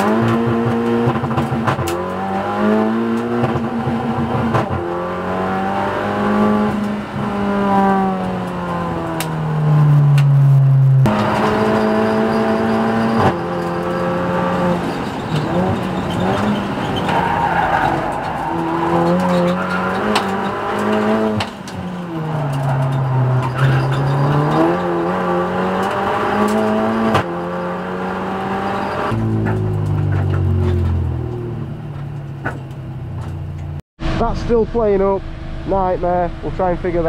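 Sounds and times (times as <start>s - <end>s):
race car engine from cabin: 0.0s - 37.0s.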